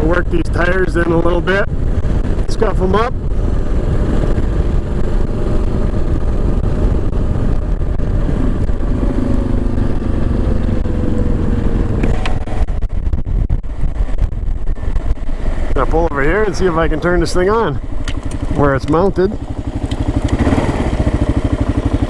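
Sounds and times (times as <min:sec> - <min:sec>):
motorcycle engine running: 0:00.0 - 0:22.0
wind rumble on microphone: 0:00.0 - 0:22.0.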